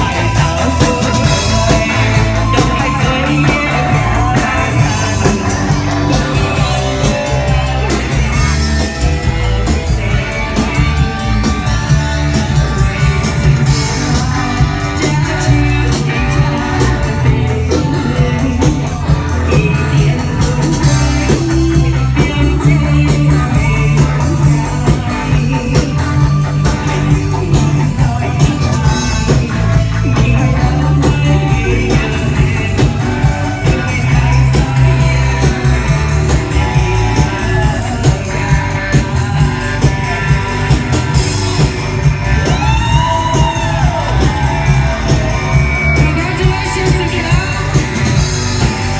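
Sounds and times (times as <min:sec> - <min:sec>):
bass and drums: 0:00.0 - 0:48.9
electric guitar: 0:00.0 - 0:48.9
live rock band playing: 0:00.0 - 0:48.9.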